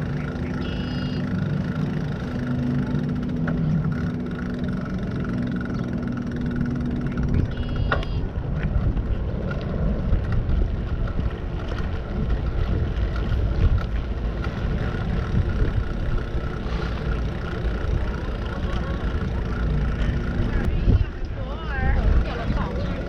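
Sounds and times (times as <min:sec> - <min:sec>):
wind buffeting microphone: 0:03.1 - 0:23.0.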